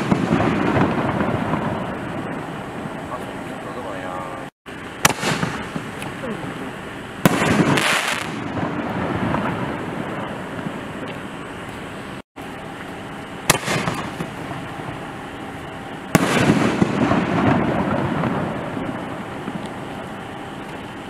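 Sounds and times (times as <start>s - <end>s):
rushing crackling of fireworks: 0.0s - 21.0s.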